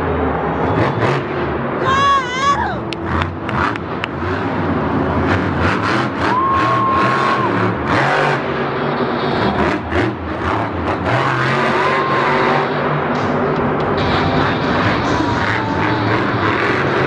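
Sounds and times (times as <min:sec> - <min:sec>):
monster truck engine revving: 0:00.0 - 0:01.8, 0:02.8 - 0:17.0.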